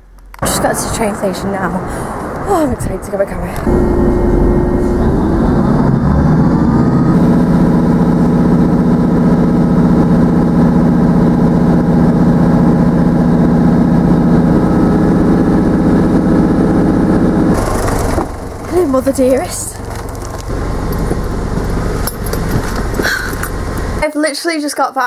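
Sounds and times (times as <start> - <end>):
train engine drone: 0.0 - 24.0.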